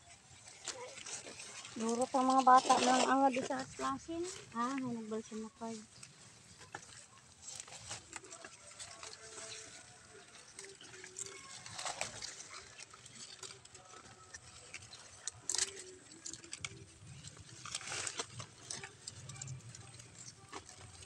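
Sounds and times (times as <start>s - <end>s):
leaves rustling and crackling: 0.0s - 21.0s
stems snapping: 0.4s - 21.0s.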